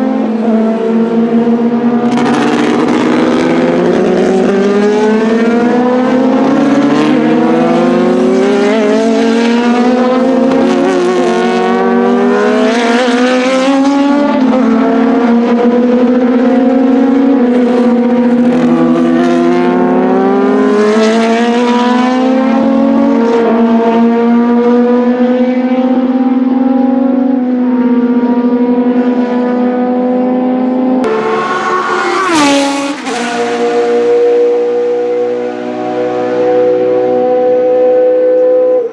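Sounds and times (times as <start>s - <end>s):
racing car engines accelerating: 0.0s - 38.9s.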